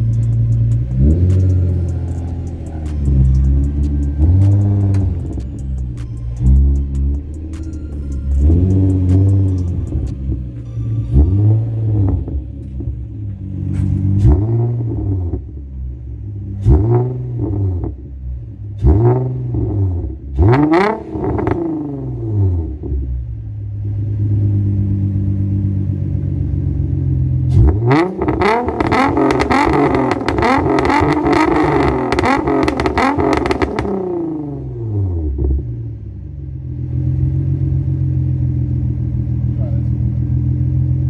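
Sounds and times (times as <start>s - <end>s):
car engine revving: 0.0s - 41.0s
exhaust crackle: 0.0s - 41.0s.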